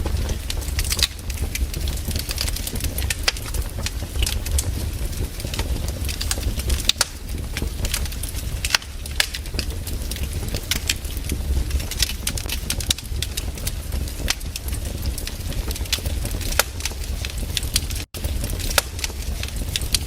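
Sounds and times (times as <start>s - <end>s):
firewood crackling and popping: 0.0s - 20.0s
low steady rumble: 0.0s - 20.0s.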